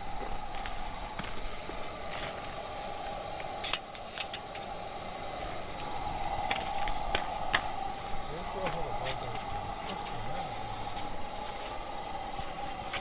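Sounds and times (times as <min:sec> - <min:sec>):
campfire hissing and crackling: 0:00.0 - 0:13.0
thin steady high tone: 0:00.0 - 0:13.0.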